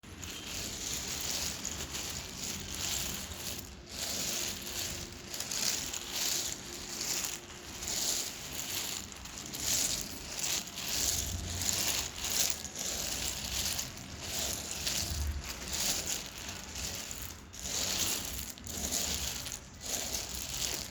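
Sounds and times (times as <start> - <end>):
dry clay crunching: 0.0 - 20.9.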